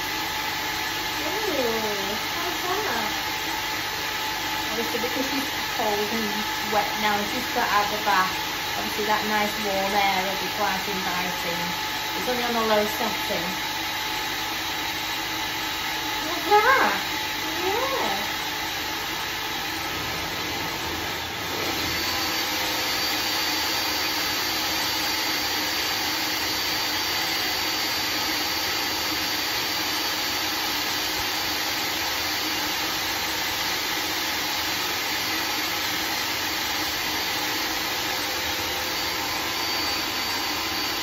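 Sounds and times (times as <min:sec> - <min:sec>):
grooming dryer blowing air: 0:00.0 - 0:41.0.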